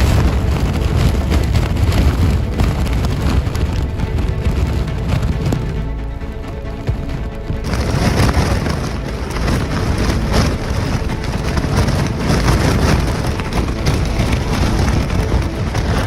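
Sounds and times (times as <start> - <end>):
wind blasting the microphone: 0.0 - 16.0.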